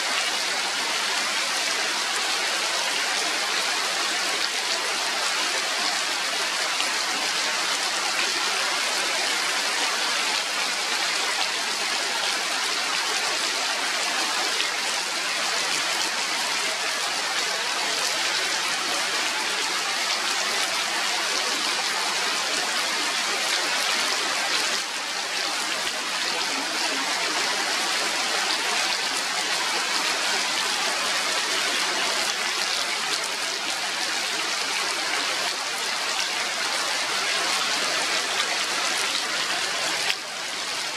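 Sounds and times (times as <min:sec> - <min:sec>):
rain on trees and leaves: 0:00.0 - 0:40.9.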